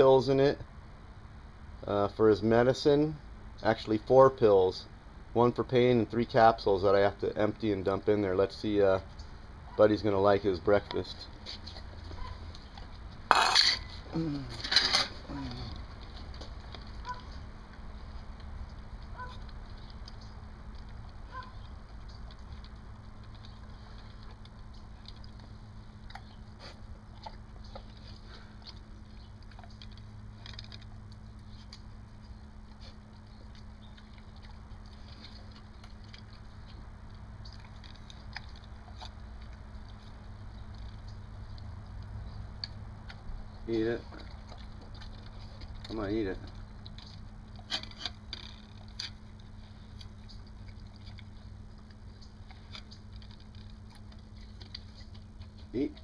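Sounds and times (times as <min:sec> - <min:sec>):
low steady hum: 0:00.0 - 0:56.0
dog chewing from metal bowl: 0:06.2 - 0:56.0.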